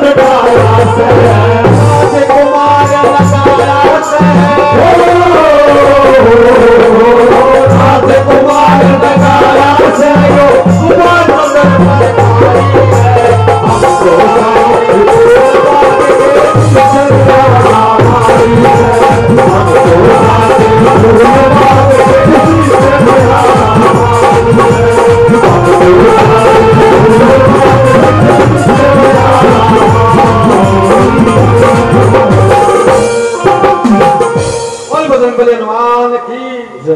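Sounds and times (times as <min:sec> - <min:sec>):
hand drum beat: 0:00.0 - 0:35.0.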